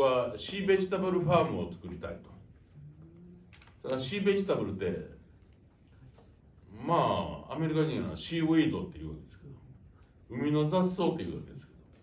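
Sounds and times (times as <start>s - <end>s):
man speaking into microphone: 0.0s - 2.7s, 3.8s - 5.4s, 6.6s - 12.0s.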